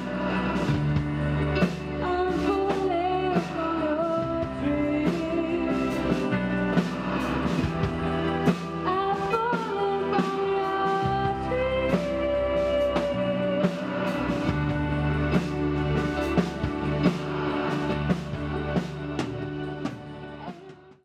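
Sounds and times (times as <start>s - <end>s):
band playing a song: 0.0s - 21.0s.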